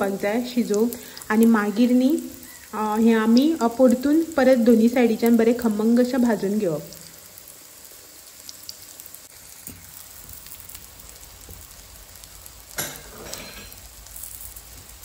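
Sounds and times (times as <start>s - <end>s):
omelette sizzling in oil: 0.0s - 15.0s.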